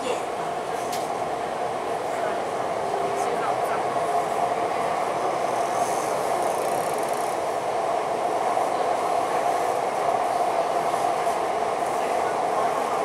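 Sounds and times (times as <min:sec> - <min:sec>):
train cabin rumble and rush: 0:00.0 - 0:13.0.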